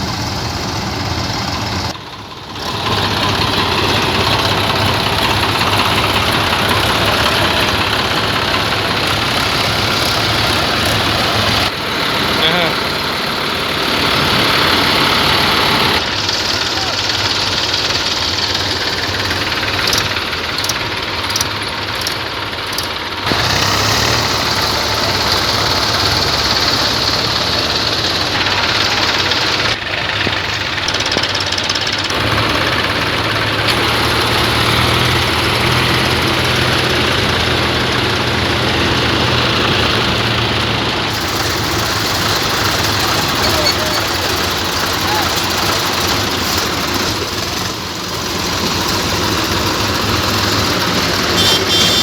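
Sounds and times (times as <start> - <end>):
tractor diesel engines running: 0.0 - 52.0.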